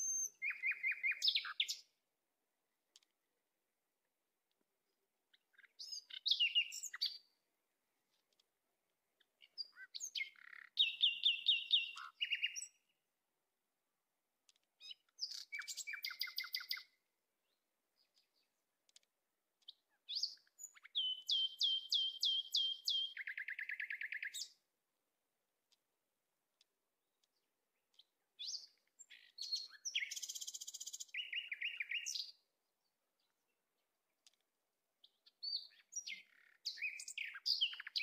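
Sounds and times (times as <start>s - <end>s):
songbird singing: 0.0s - 13.3s, 14.3s - 24.8s, 25.6s - 38.0s.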